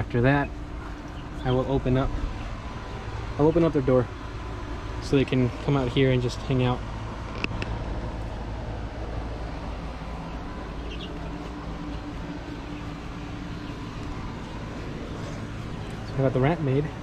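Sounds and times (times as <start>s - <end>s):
faint hum: 0.0s - 17.0s
outdoor background rumble: 0.0s - 17.0s.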